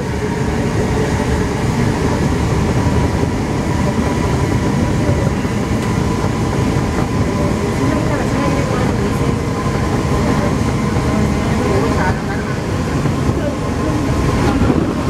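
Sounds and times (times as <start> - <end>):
metro train rumbling: 0.0 - 15.0.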